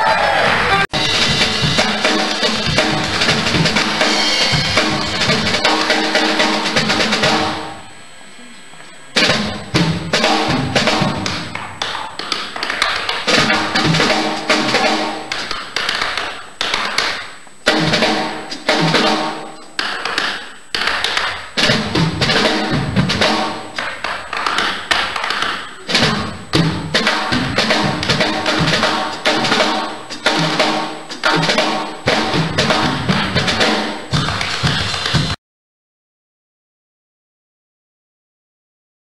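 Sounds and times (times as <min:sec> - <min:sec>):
drum kit beat: 0:00.0 - 0:07.9, 0:09.2 - 0:35.4.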